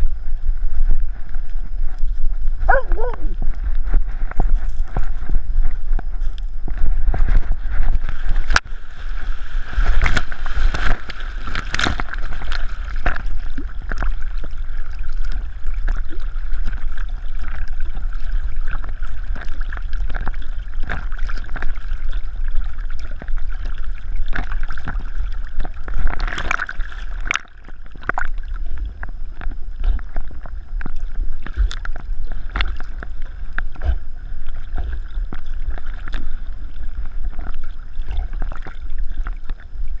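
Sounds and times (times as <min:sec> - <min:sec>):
steady low rumble: 0:00.0 - 0:40.0
water sloshing and splashing: 0:00.0 - 0:40.0.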